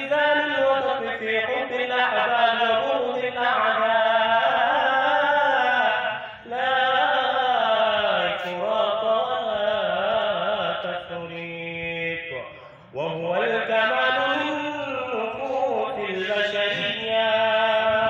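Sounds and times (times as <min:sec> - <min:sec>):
man chanting into a microphone: 0:00.0 - 0:18.0.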